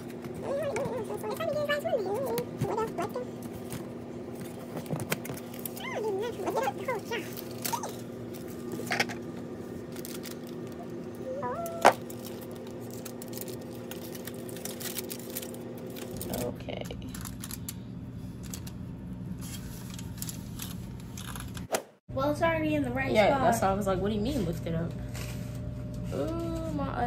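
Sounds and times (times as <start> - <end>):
aluminium foil crinkling: 0.0 - 21.7
steady low hum: 0.0 - 27.0.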